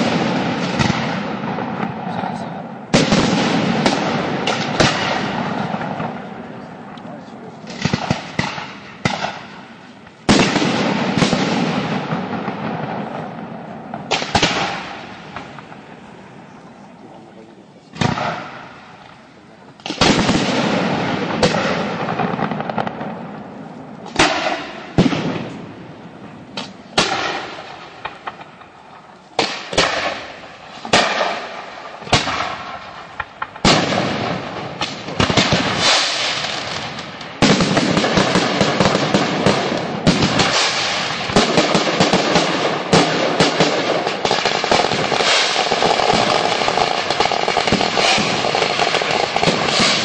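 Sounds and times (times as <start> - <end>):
loud pyrotechnic bangs: 0.0 - 16.6, 17.9 - 19.2, 19.8 - 50.0
continuous crackling and popping: 0.0 - 50.0.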